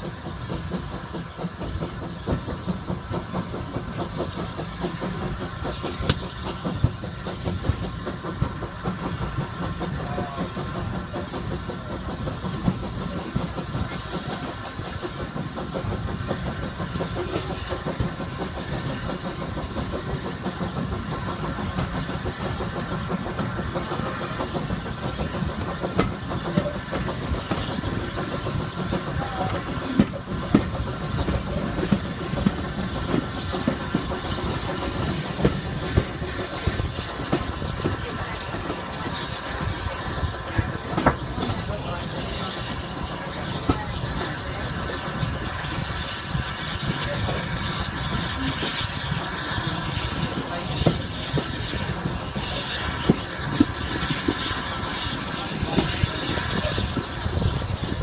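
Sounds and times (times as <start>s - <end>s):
steam train rumbling: 0.0s - 58.0s.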